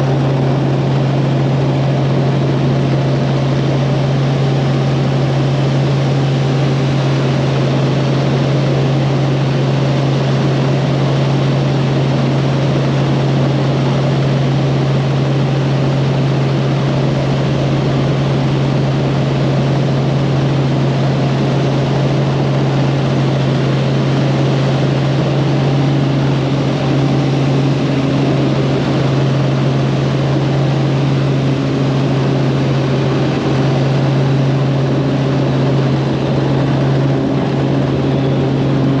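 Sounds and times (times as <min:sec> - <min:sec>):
helicopter engine and rotor drone: 0:00.0 - 0:39.0.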